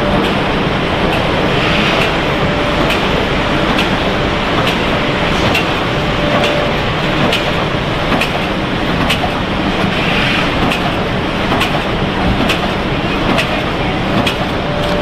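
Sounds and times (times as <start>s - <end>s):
packaging machine noise: 0.0s - 15.0s.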